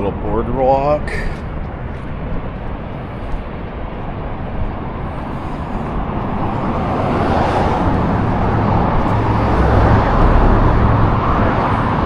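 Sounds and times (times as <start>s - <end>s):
traffic passing on busy road: 0.0s - 12.0s.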